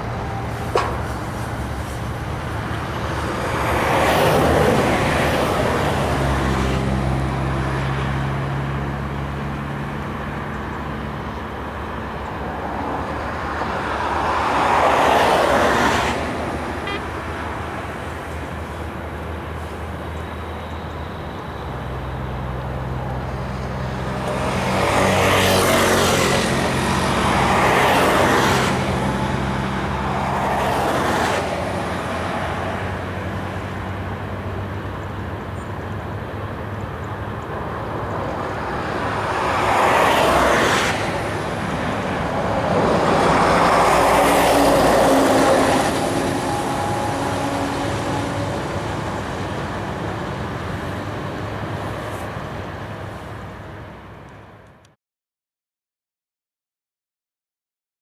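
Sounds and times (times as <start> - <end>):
low diesel engine hum: 0.0 - 55.0
road traffic passing: 0.0 - 55.0.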